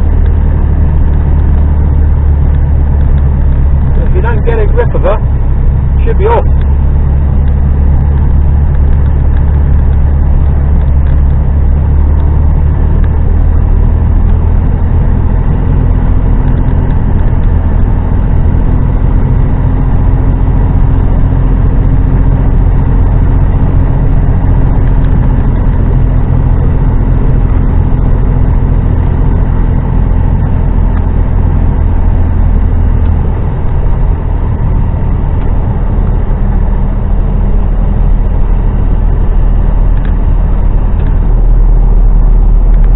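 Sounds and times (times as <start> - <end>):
lorry diesel engine drone: 0.0 - 42.9.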